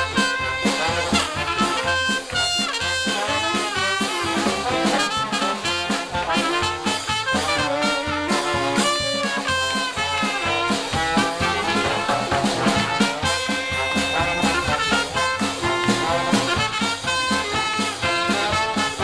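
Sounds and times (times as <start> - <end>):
steady jazz beat: 0.0 - 19.0
trombone: 0.0 - 19.0
trumpet: 0.0 - 19.0.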